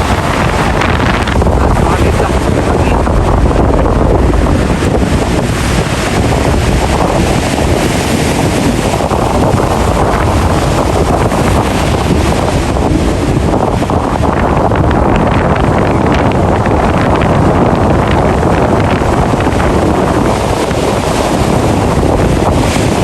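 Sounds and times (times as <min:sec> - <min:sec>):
ocean waves rushing: 0:00.0 - 0:23.0
wind buffeting microphone: 0:00.0 - 0:23.0.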